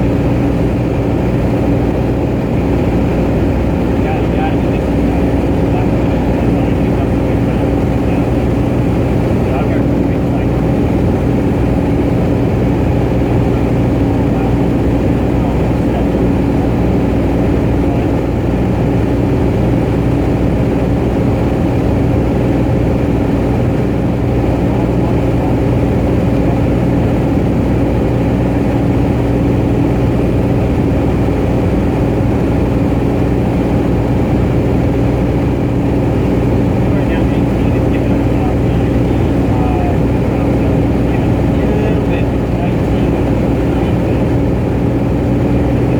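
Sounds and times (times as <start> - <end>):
aircraft engine and propeller drone: 0.0 - 45.9
wind and airframe noise: 0.0 - 45.9.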